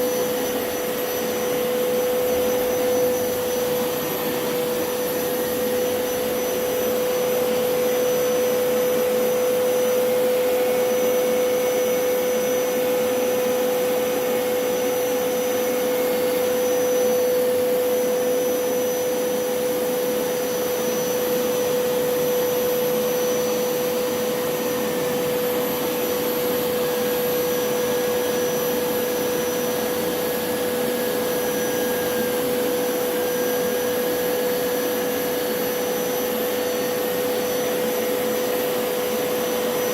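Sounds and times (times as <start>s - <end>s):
carpet cleaner motor whining: 0.0s - 39.9s.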